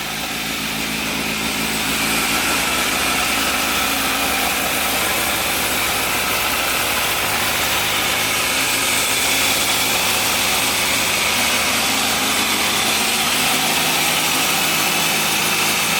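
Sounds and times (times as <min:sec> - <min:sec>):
motorcycle engine running steadily: 0:00.0 - 0:15.9.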